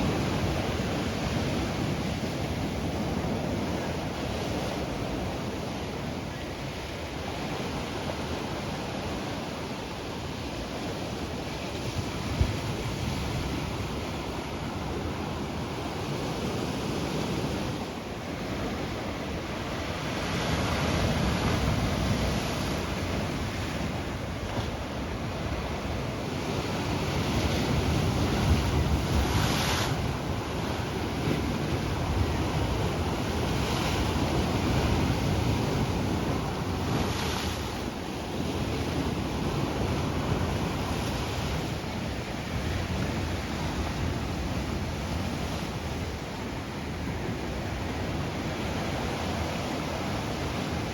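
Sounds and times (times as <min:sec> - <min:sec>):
ocean surf washing: 0:00.0 - 0:50.9
wind rumbling on microphone: 0:00.0 - 0:50.9.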